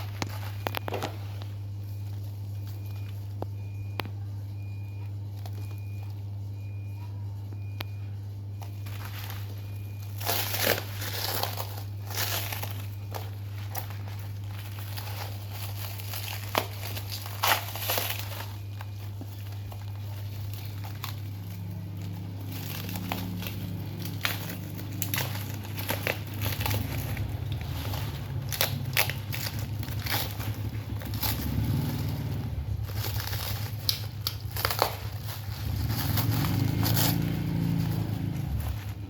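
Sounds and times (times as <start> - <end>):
packaging crumpling and crackling: 0.0 - 6.5, 8.5 - 39.0
steady low hum: 0.0 - 39.0.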